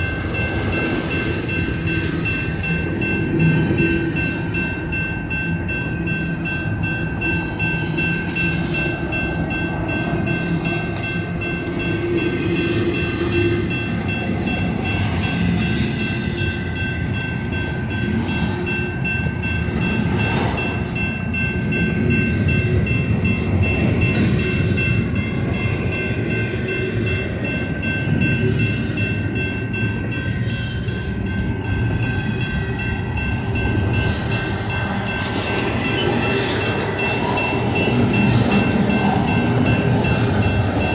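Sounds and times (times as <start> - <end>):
thin high ringing tones: 0.0 - 40.9
train wheels rumbling on rail: 0.0 - 40.9.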